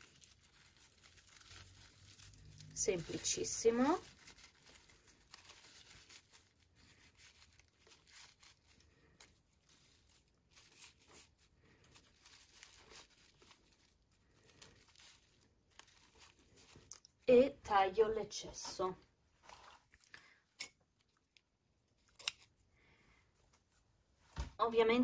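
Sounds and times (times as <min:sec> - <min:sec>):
raffia yarn rustling and crinkling: 0:00.0 - 0:25.0.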